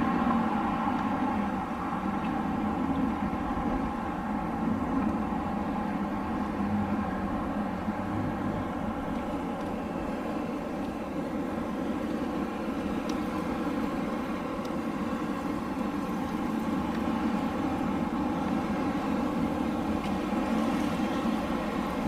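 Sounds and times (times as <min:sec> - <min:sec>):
wind blowing: 0:00.0 - 0:22.0.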